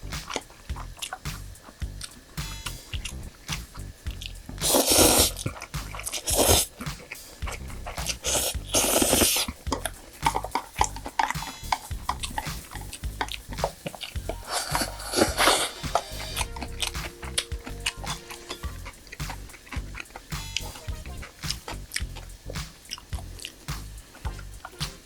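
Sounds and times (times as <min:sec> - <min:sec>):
person chewing and biting: 0:00.0 - 0:24.8.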